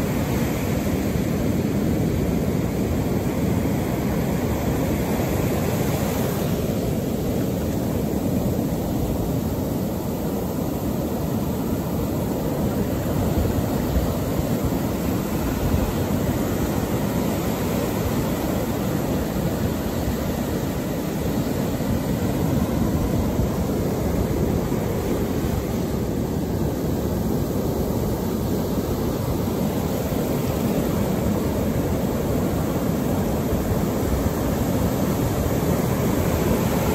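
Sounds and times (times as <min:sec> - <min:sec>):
waves breaking on sand: 0:00.0 - 0:36.9.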